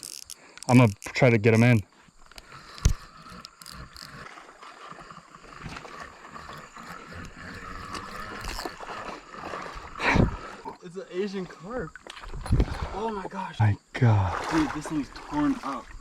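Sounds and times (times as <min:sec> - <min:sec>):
creek water gurgling: 0:00.0 - 0:16.0.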